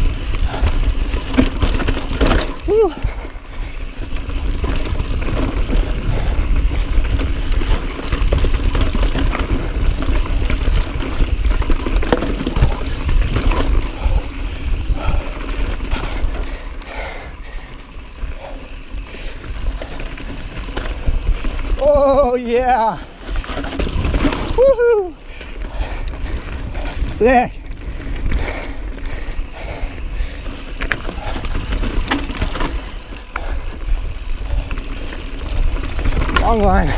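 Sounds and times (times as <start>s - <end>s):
bike chain rattling and clicking: 0.0s - 36.9s
tyres on loose dirt: 0.0s - 36.9s.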